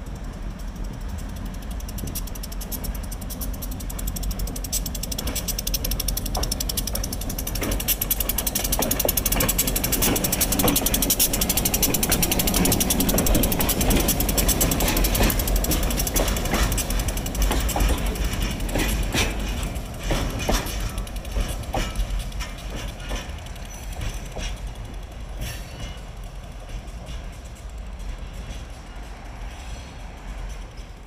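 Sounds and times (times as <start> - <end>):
diesel locomotive rolling past: 0.0 - 31.0
wheels knocking on rails: 0.0 - 31.0.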